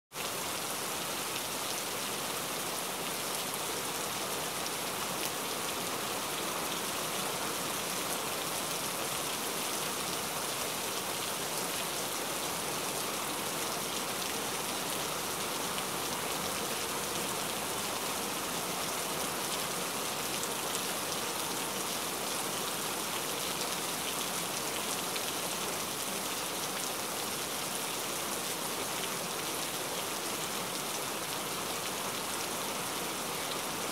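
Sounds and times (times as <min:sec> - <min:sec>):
rain falling on river surface: 0:00.1 - 0:33.9.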